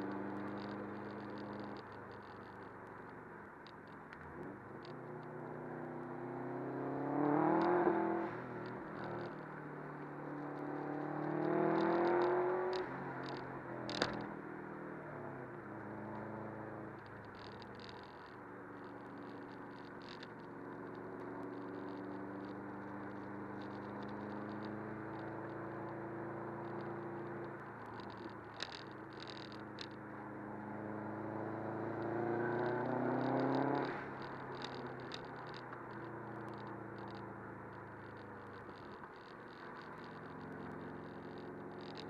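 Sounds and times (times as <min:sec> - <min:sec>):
road noise: 0:00.0 - 0:42.0
car engine heard from cabin: 0:04.1 - 0:42.0.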